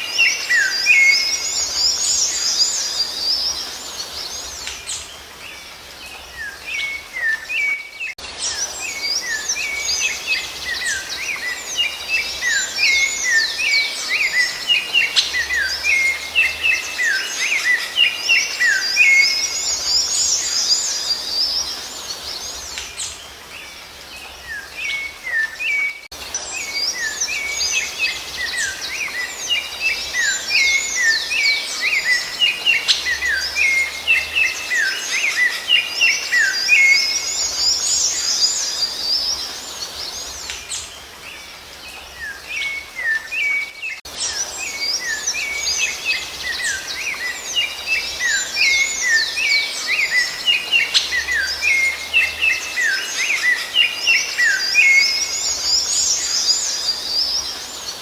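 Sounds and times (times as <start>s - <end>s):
birdsong chirps and whistles: 0.0s - 58.0s.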